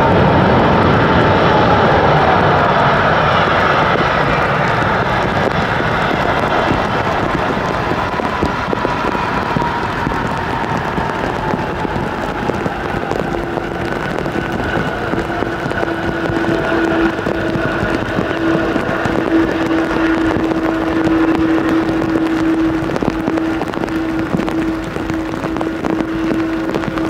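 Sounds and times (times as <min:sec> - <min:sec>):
continuous noisy rush: 0:00.0 - 0:27.0
high engine whine: 0:00.0 - 0:27.0
jet engines humming: 0:00.0 - 0:27.0.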